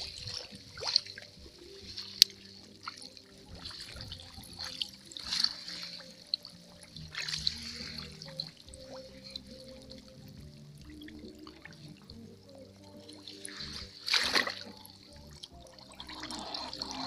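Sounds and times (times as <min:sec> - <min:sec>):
water sloshing and trickling: 0:00.0 - 0:17.0.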